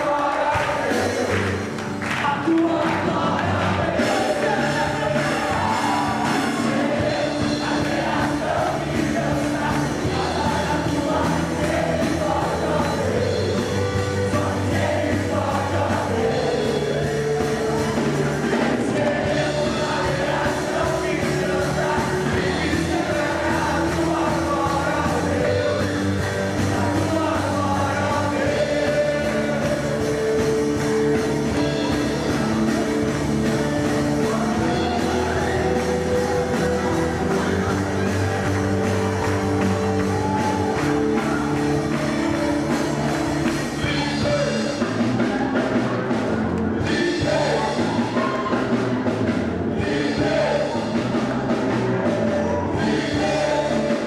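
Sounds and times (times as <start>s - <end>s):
rock song with sung vocals: 0.0s - 54.0s.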